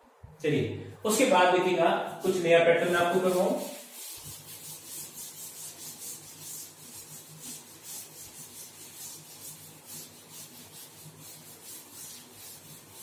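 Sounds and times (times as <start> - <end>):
duster scraping chalkboard: 1.1 - 13.0.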